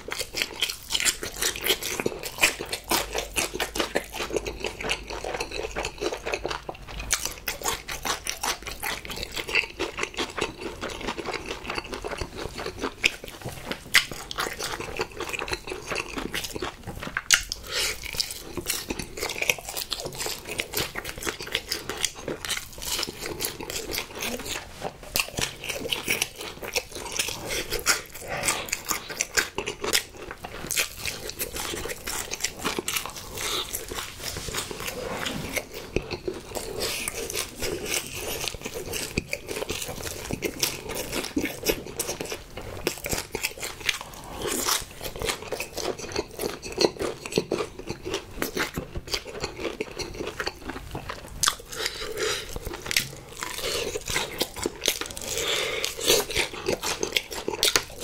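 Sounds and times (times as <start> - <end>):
crispy chicken crunching: 0.0 - 58.0.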